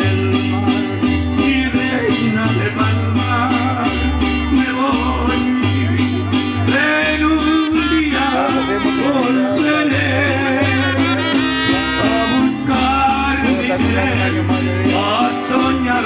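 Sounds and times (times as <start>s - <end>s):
acoustic guitars strumming: 0.0s - 16.0s
deep bass guitar notes: 0.0s - 16.0s.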